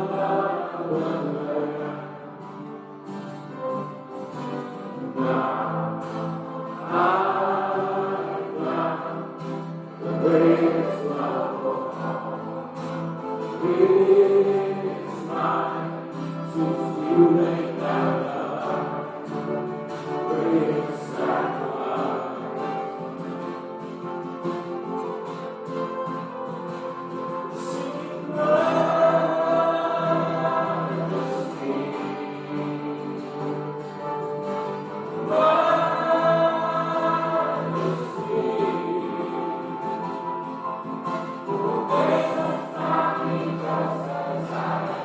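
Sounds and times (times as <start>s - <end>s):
congregation singing a hymn: 0.0s - 45.0s
instrumental accompaniment: 0.0s - 45.0s.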